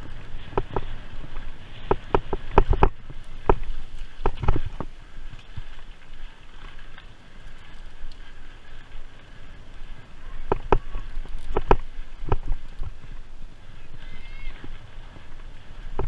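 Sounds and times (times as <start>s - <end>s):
bike knocking and rattling: 0.0s - 16.0s
wind noise: 0.0s - 16.0s.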